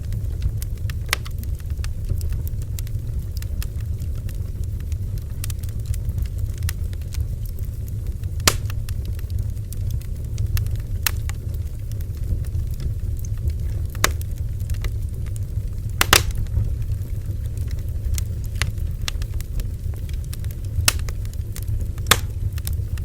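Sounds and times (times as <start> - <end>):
low fire rumble: 0.0 - 23.0
wood crackling and popping: 0.0 - 23.0.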